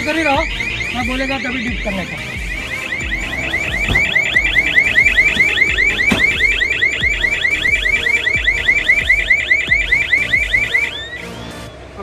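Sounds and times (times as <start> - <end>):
electronic alarm rising chirps: 0.0 - 11.4.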